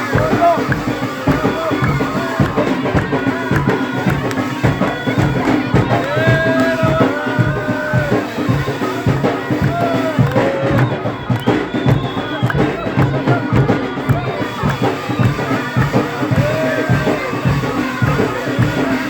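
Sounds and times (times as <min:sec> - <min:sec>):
rapid drumming: 0:00.0 - 0:19.0
wind instrument melody: 0:00.0 - 0:19.0.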